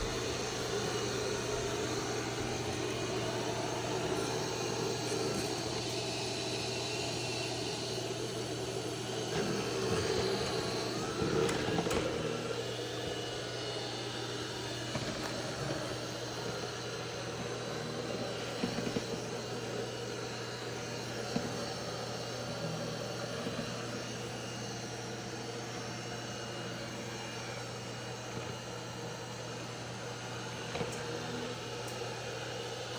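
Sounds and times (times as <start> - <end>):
robot vacuum motor whirring: 0.0 - 32.9.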